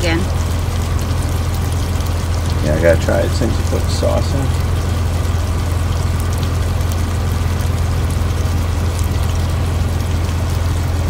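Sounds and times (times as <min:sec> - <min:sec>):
truck engine idling: 0:00.0 - 0:11.0
stew bubbling in a skillet: 0:00.2 - 0:11.0.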